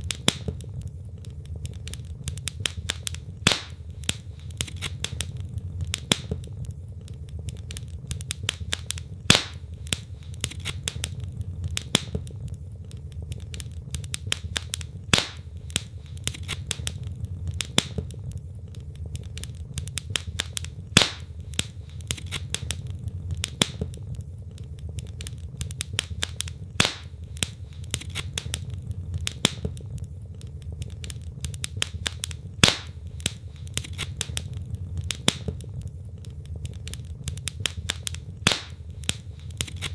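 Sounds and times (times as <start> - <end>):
logs crackling and snapping: 0.0 - 39.9
loud pops of burning wood: 0.0 - 39.9
low rumble of flame: 0.0 - 39.9.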